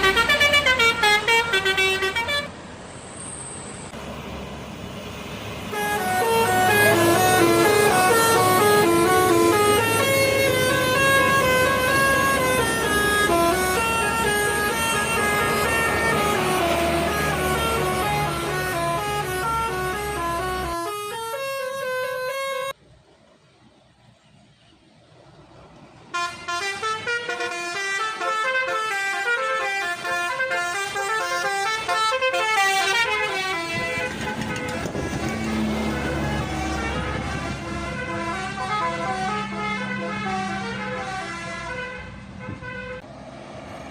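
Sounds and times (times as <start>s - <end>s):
air-horn trumpets playing tune: 0.0s - 2.5s, 5.7s - 22.8s, 26.2s - 42.0s.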